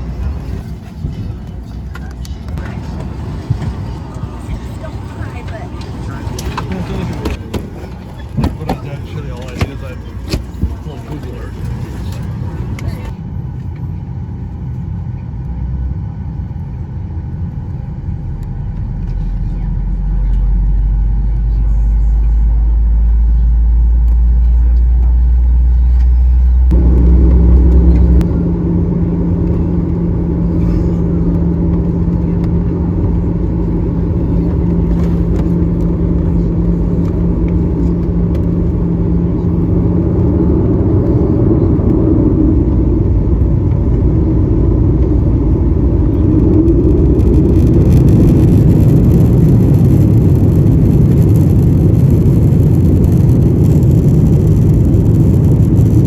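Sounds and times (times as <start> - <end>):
jet engine drone in cabin: 0.0 - 56.0
steady hum: 0.0 - 56.0.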